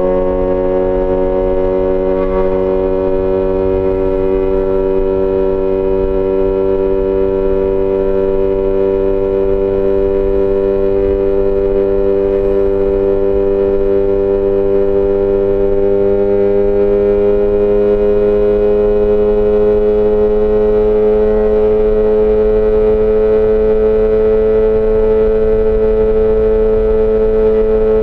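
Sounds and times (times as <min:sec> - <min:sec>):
motorcycle engine under way: 0:00.0 - 0:28.0.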